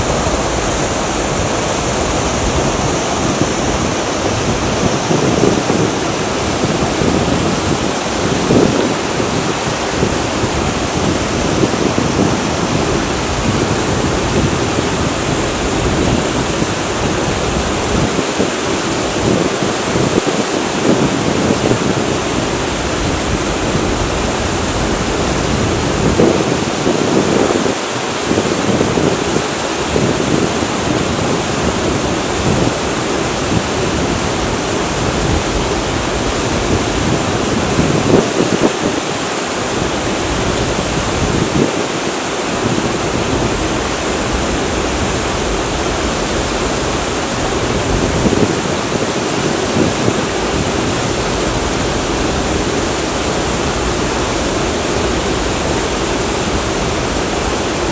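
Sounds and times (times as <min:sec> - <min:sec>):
waterfall rushing into creek: 0:00.0 - 0:57.9.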